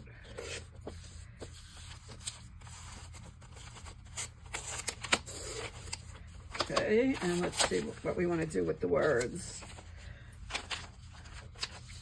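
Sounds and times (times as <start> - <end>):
paper rustling: 0.2 - 12.0.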